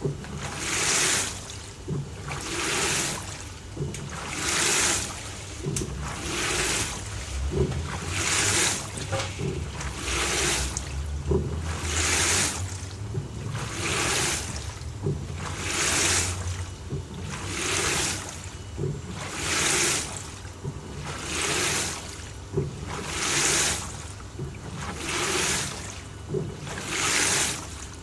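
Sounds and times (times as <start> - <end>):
washing machine motor hum: 0.0 - 28.0
washing machine water swoosh: 0.0 - 28.0.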